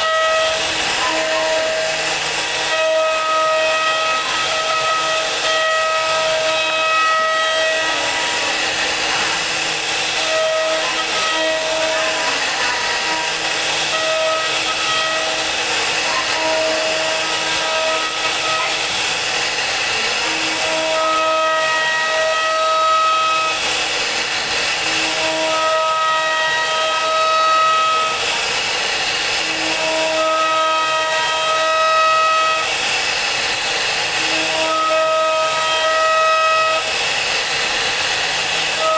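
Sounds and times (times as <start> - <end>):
router spindle carving wood: 0.0 - 38.9.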